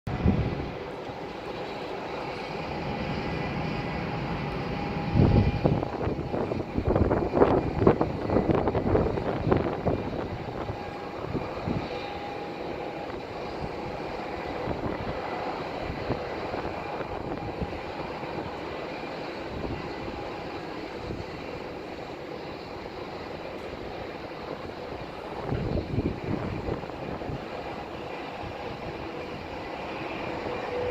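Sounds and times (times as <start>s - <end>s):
jet engines rumbling: 0.1s - 30.9s
rushing air: 0.1s - 30.9s.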